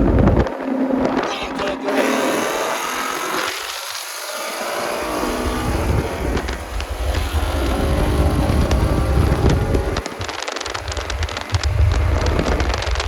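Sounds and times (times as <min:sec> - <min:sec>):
wind noise on microphone: 0:00.0 - 0:02.6, 0:05.0 - 0:13.0
car engine at full throttle: 0:00.0 - 0:13.0.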